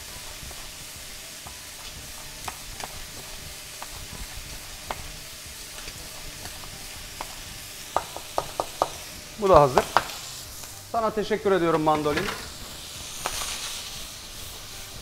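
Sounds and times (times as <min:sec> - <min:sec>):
shrimp sizzling in oil: 0:00.0 - 0:15.0.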